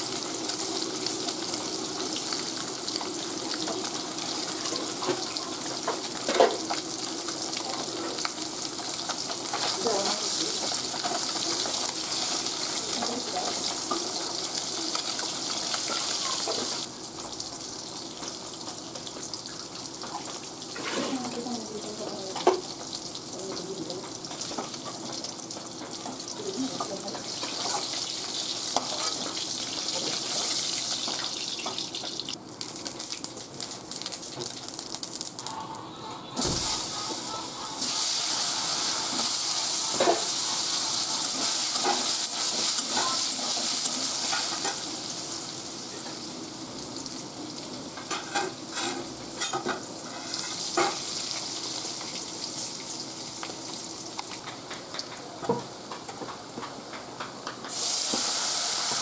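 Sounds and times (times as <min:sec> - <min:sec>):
fish sizzling in hot oil: 0:00.0 - 0:35.6, 0:36.4 - 0:56.2, 0:57.4 - 0:59.0.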